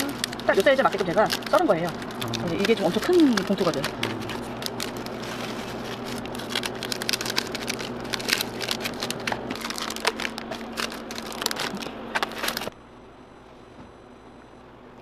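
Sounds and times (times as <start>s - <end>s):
plastic bags crinkling: 0.0s - 12.7s.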